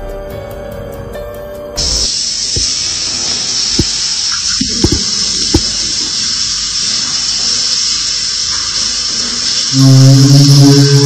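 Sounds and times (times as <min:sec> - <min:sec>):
shower water running: 0:01.8 - 0:11.0.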